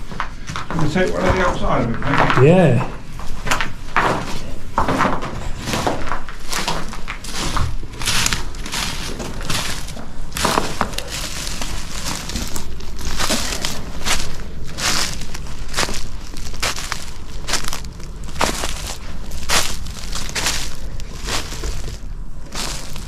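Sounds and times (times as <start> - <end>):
footsteps crunching on debris: 3.2 - 23.0.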